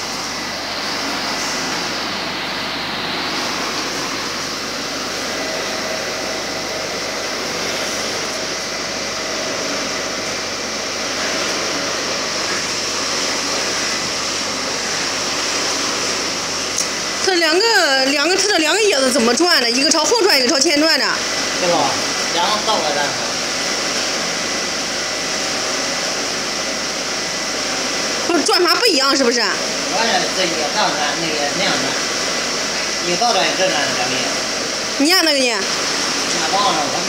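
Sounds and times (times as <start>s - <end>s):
gear drive humming: 0.0s - 37.0s.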